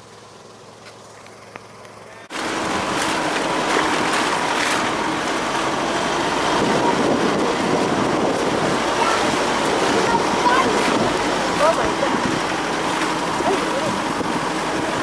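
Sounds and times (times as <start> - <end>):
suv driving on dirt track: 0.0 - 15.0.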